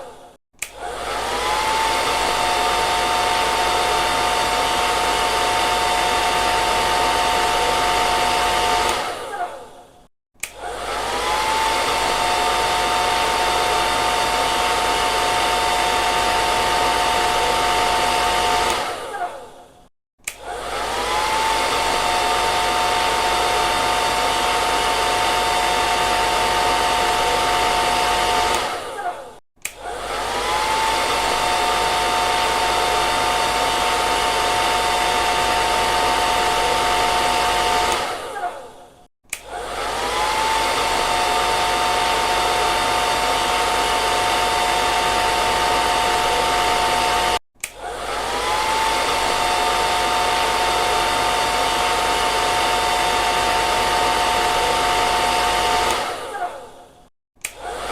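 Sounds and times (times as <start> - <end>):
hair dryer blowing: 0.0 - 57.9.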